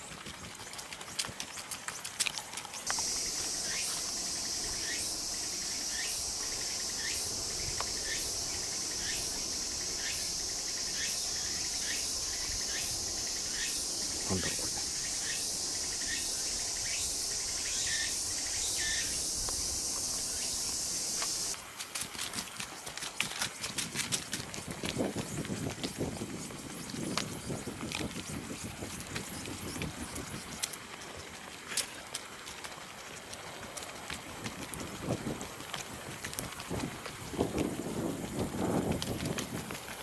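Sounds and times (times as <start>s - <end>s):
cicadas chorus: 0.0s - 40.0s.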